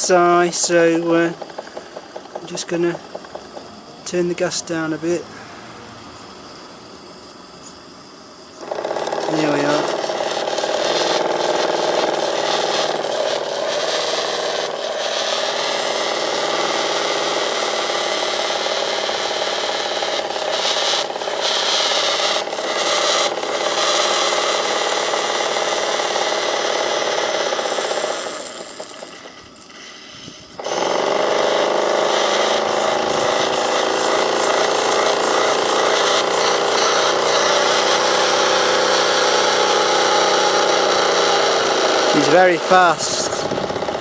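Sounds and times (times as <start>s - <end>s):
model steam engine running: 0.0s - 44.0s.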